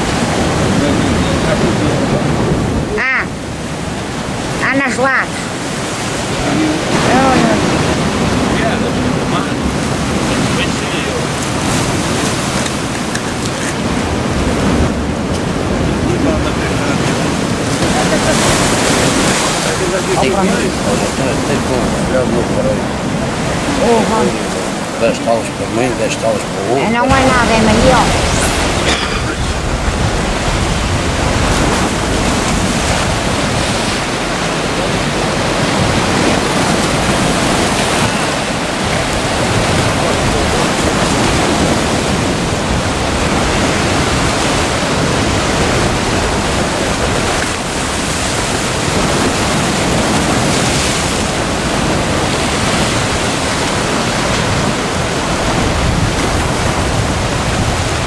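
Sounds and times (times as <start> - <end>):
waves breaking on rocks: 0.0 - 58.0.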